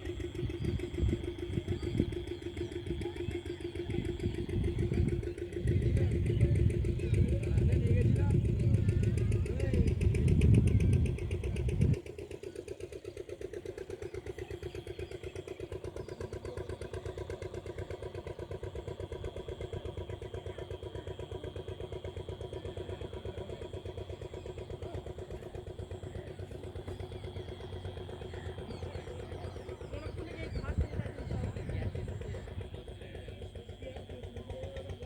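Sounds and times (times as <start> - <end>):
boat engine chugging: 0.0 - 35.0.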